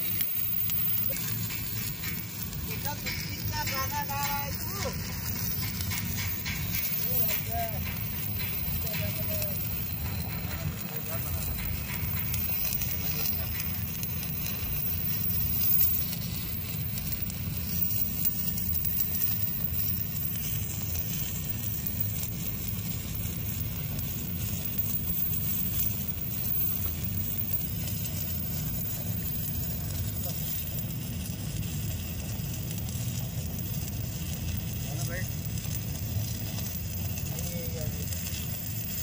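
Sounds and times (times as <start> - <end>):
welding arc crackling and sizzling: 0.0 - 39.0.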